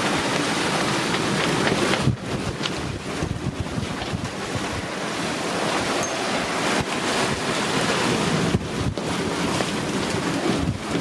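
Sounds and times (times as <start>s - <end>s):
water streaming past hull: 0.0s - 11.0s
waves breaking: 0.0s - 11.0s
wind buffeting microphone: 0.0s - 11.0s.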